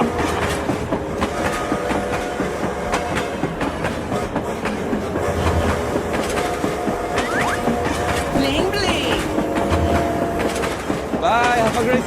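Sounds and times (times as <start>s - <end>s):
train wheels clacking over rail joints: 0.0s - 12.0s.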